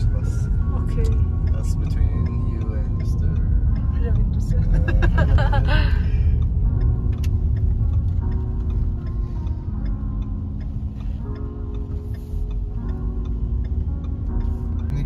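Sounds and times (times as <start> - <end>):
background music held notes: 0.0 - 15.0
car interior rumble: 0.0 - 15.0
faint ticking: 0.0 - 15.0.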